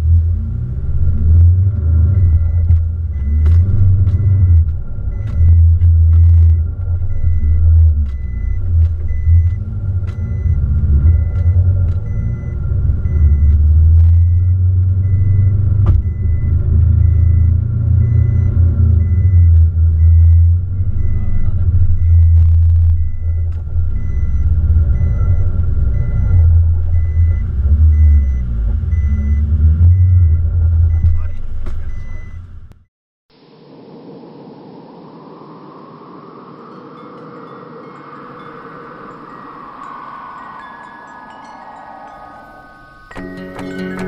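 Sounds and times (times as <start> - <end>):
heavy low rumble: 0.0 - 43.9
faint high electronic beep: 2.1 - 32.4, 33.4 - 44.0.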